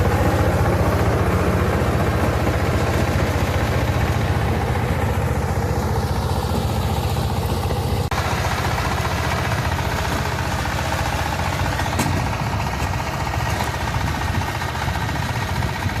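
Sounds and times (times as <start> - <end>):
walking tractor engine running: 0.0 - 16.0.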